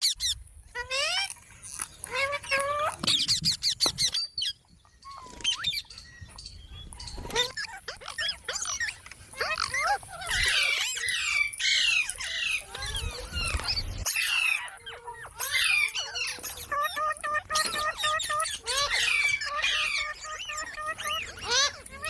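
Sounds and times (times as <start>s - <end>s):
parrot chirping and squawking: 0.0s - 22.0s.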